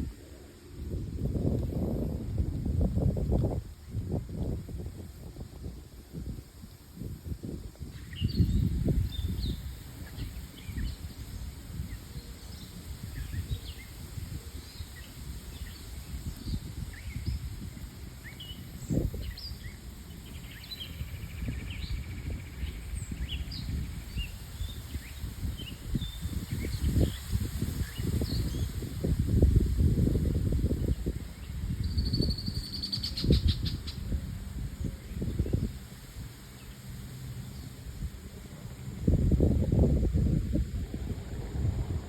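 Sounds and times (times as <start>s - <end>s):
low rumble on microphone: 0.0s - 42.0s.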